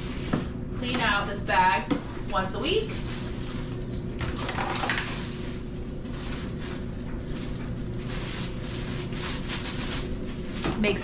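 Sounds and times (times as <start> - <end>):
plastic bag rustling: 0.0 - 11.0
steady low hum: 0.0 - 11.0.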